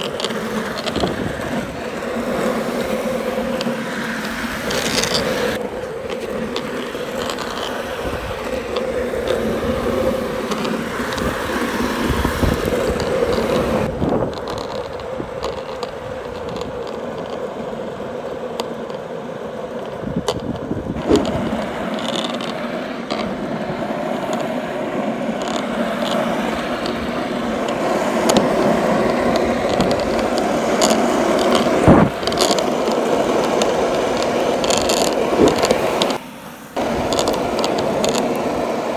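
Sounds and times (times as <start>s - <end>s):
skateboard wheels rolling on asphalt: 0.0s - 38.9s.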